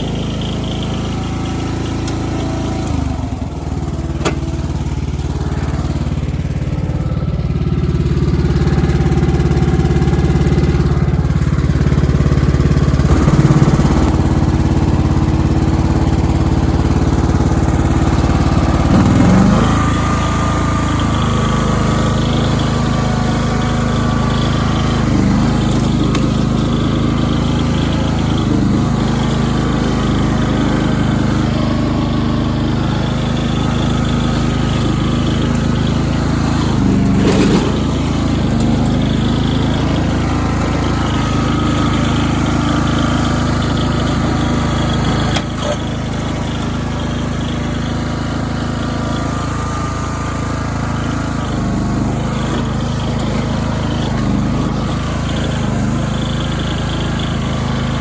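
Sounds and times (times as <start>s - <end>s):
engine clatter: 0.0s - 58.0s
small gasoline engine running: 0.0s - 58.0s.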